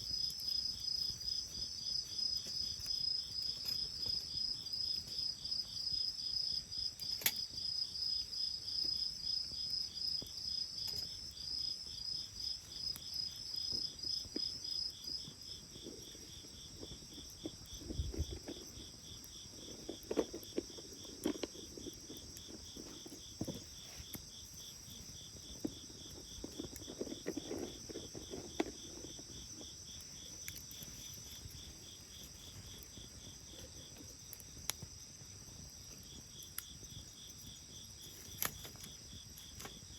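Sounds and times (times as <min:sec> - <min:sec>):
bonfire crackling and popping: 0:00.0 - 0:39.9
crickets chirping: 0:00.0 - 0:39.9.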